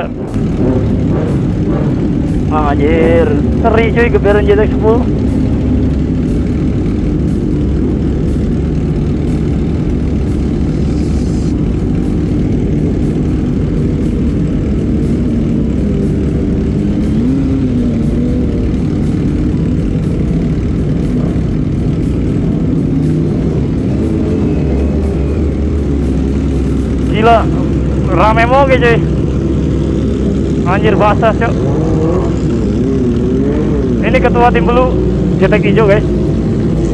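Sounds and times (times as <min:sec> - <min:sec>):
motorcycle engines running: 0:00.0 - 0:36.9.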